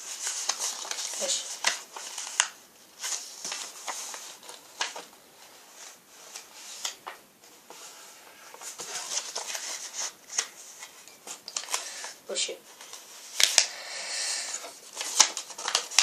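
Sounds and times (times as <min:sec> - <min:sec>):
paper rustling and crinkling: 0:00.0 - 0:13.8, 0:14.6 - 0:16.0.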